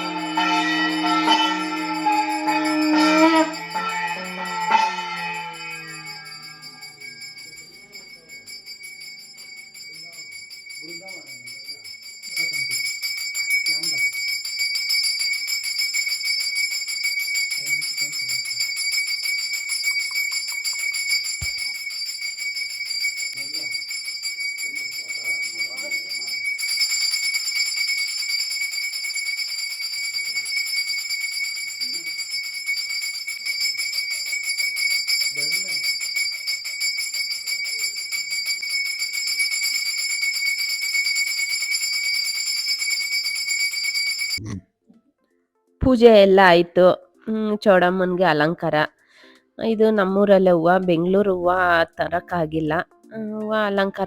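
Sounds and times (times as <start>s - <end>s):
brass hand bell ringing: 0.0s - 44.4s.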